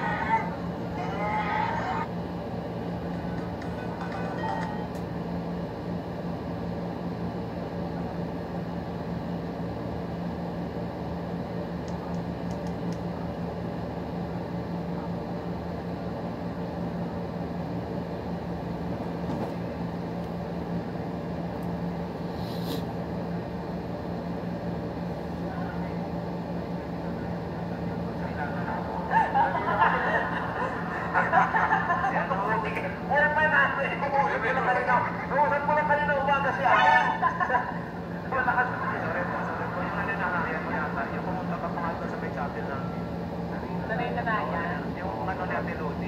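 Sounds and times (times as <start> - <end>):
steady appliance hum with hiss: 0.0 - 46.0.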